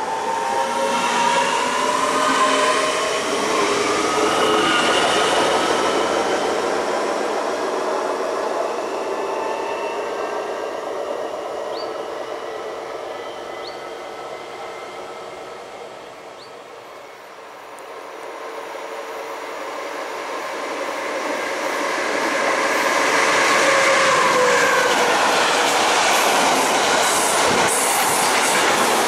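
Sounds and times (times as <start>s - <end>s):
train wheels rolling on rails: 0.0s - 29.0s.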